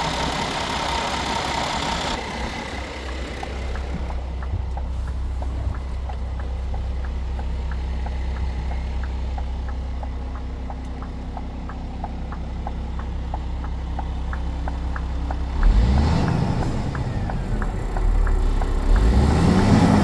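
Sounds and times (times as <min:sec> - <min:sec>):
fast regular ticking: 0:00.0 - 0:20.0
vehicle engine running: 0:00.0 - 0:20.0.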